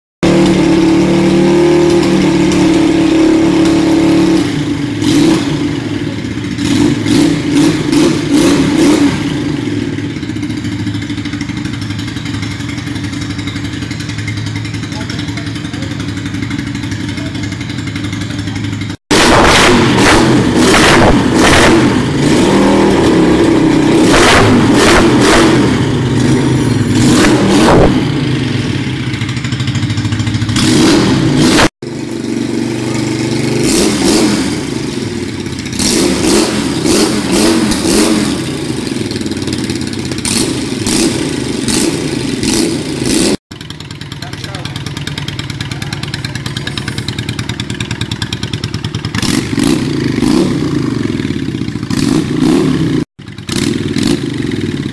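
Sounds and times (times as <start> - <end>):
motorcycle engine idling and revving: 0.2 - 54.9.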